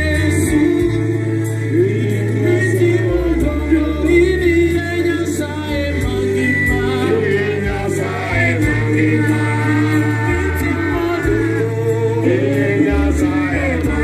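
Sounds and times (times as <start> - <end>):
electric keyboard with bass line: 0.0 - 14.0
men singing gospel song: 0.0 - 14.0.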